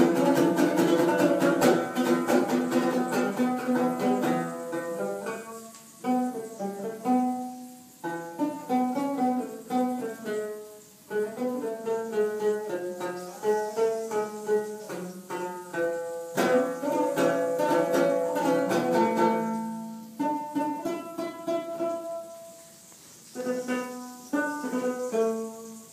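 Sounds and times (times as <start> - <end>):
plucked string music: 0.0 - 25.9.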